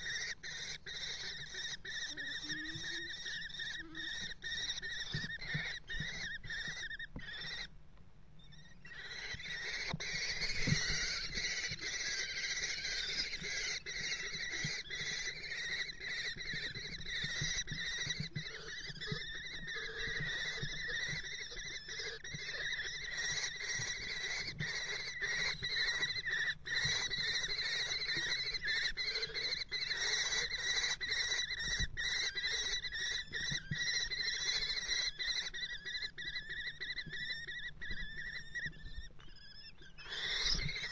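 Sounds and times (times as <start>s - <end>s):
kestrels calling: 0.0s - 40.9s.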